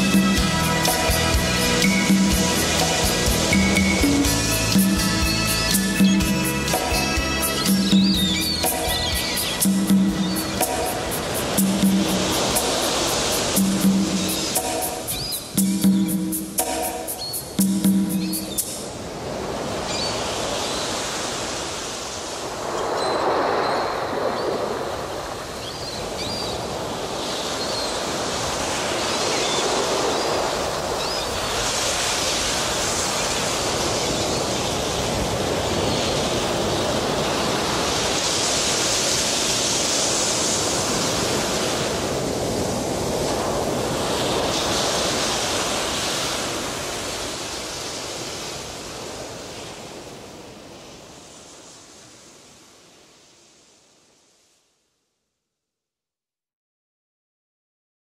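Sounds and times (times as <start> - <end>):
ocean waves breaking: 0.0 - 54.5.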